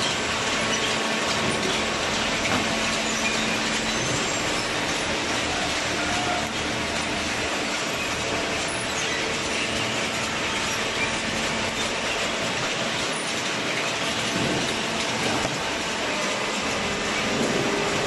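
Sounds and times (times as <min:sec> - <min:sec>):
machinery running: 0:00.0 - 0:18.0.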